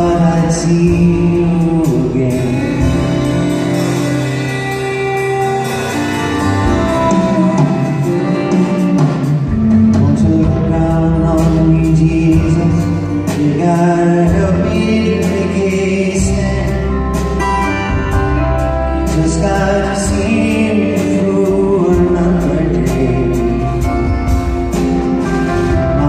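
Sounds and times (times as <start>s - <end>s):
acoustic guitar: 0.0s - 26.0s
bass: 0.0s - 26.0s
man singing: 0.0s - 26.0s
piano: 0.0s - 26.0s.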